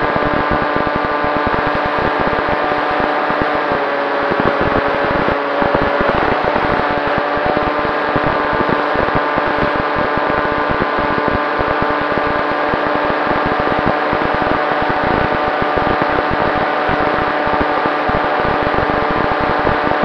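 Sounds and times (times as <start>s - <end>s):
electric motor and propeller whining: 0.0s - 20.0s.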